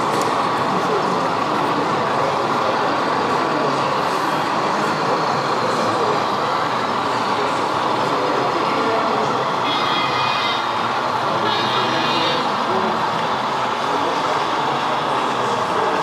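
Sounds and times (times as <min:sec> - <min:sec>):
hubbub of distant voices: 0:00.0 - 0:16.0.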